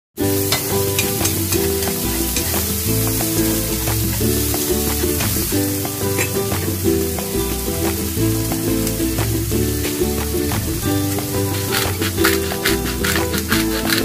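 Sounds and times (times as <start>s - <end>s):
background music: 0.2s - 14.0s
food sizzling in a wok: 0.2s - 14.0s.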